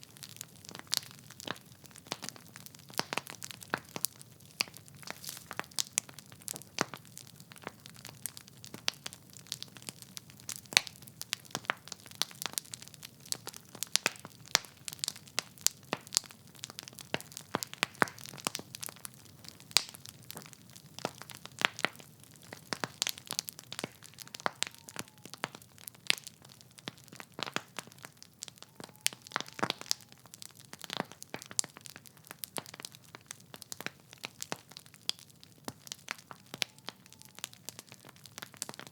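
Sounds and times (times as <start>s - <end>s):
logs crackling in fireplace: 0.0s - 38.9s.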